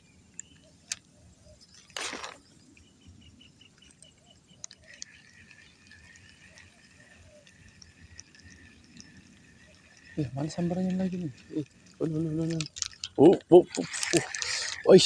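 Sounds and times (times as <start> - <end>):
birds or insects chirping: 0.0 - 15.0.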